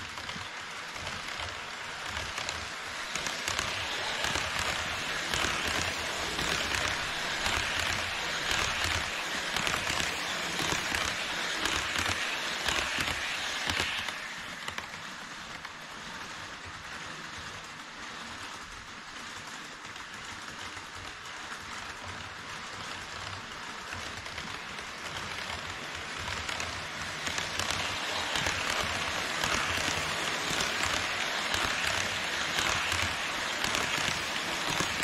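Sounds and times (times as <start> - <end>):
model train wheels rattling on rails: 0.0 - 35.0.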